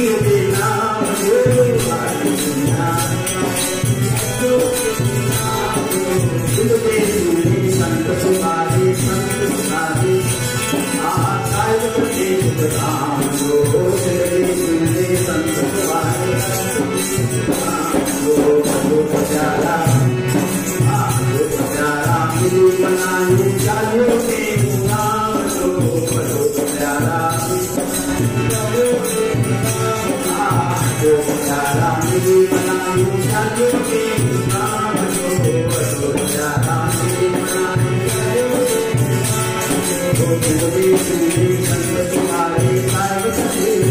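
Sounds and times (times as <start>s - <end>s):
harmonium: 0.0s - 43.9s
man singing into microphone: 0.0s - 43.9s
rhythmic percussion beat: 0.0s - 43.9s.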